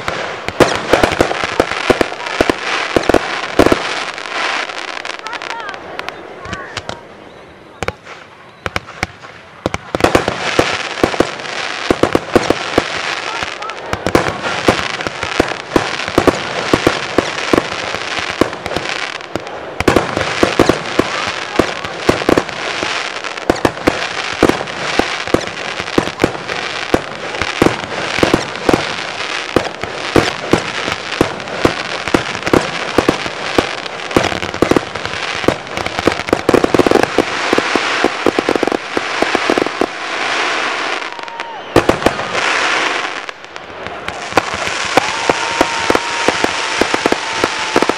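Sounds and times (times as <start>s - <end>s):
fireworks hiss: 0.0s - 7.0s, 7.8s - 47.9s
fireworks bangs: 0.0s - 7.2s, 7.8s - 47.9s.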